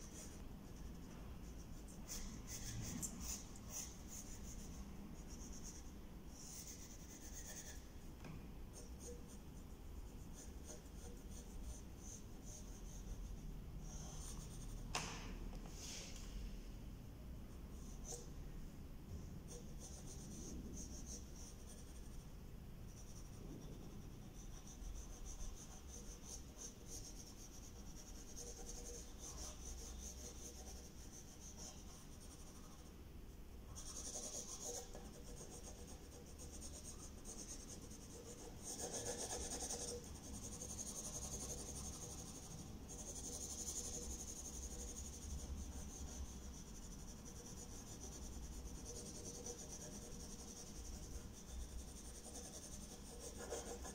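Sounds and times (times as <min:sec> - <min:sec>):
pencil scratching on paper: 0:00.0 - 0:08.0, 0:08.7 - 0:14.9, 0:17.7 - 0:18.3, 0:19.4 - 0:22.2, 0:22.9 - 0:32.9, 0:33.7 - 0:53.9.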